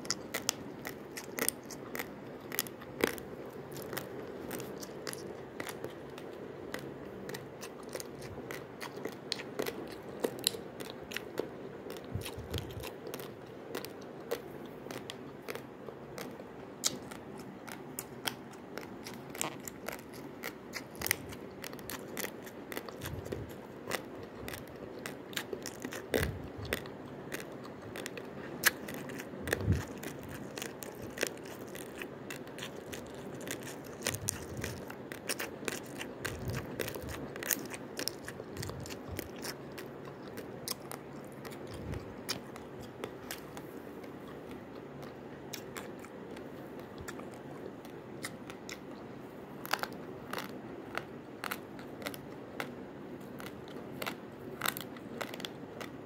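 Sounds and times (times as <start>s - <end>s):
chewing crunchy rice grains: 0.0s - 56.0s
faint steady hum: 0.0s - 56.0s.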